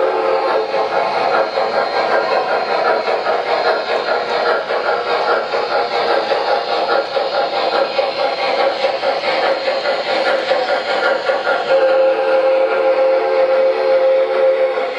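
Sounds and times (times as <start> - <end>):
model train steam chuff: 0.0 - 14.9
wheels on track: 0.0 - 14.9.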